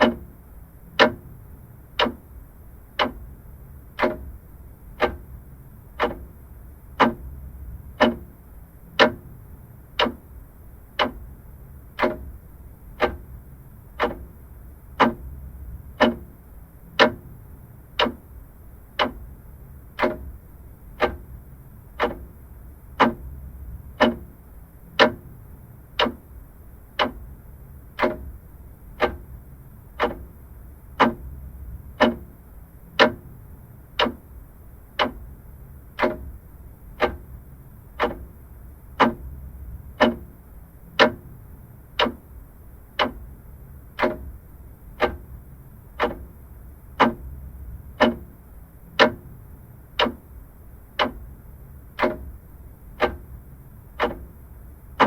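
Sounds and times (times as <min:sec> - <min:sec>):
clock ticking: 0:00.0 - 0:55.0
faint low hum: 0:00.0 - 0:55.0.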